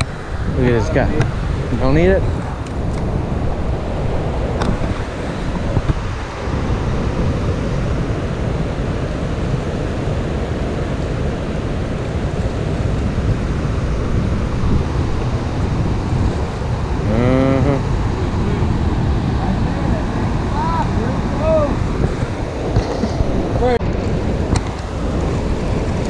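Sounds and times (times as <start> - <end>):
water rushing through spillway: 0.0 - 26.0
wind buffeting microphone: 0.0 - 26.0.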